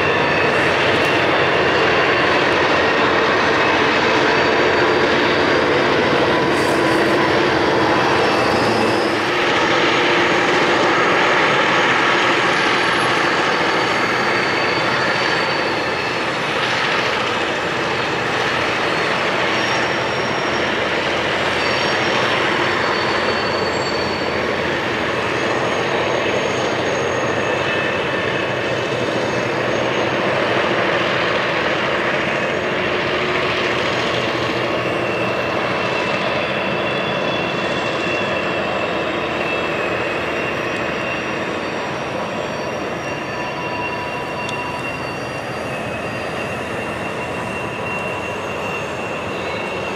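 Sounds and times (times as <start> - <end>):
diesel locomotive engines droning: 0.0 - 49.9.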